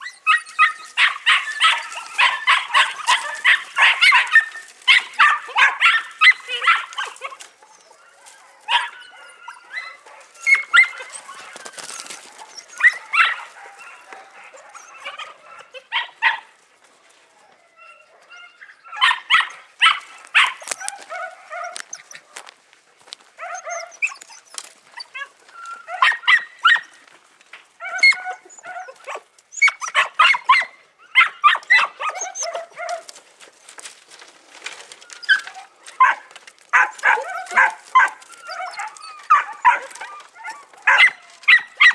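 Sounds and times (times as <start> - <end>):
puppies yapping and yelping: 0.0 - 22.5, 23.4 - 27.1, 27.8 - 41.9.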